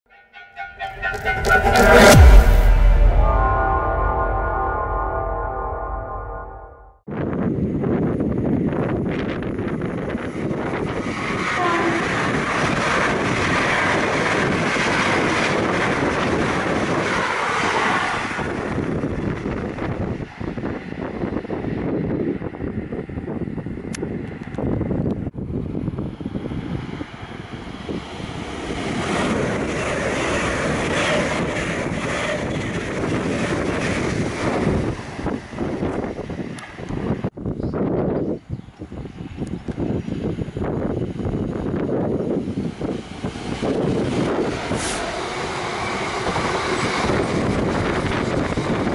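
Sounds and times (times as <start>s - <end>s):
train passing at speed: 0.1s - 6.5s, 7.1s - 48.9s.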